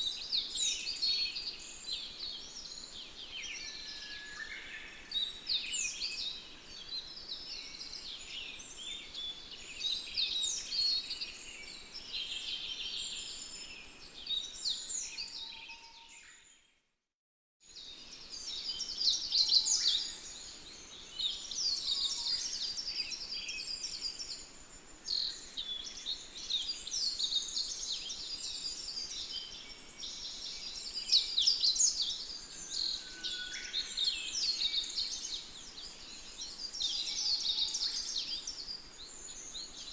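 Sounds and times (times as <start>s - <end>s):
songbirds chirping and trilling: 0.0s - 16.7s, 17.7s - 39.9s.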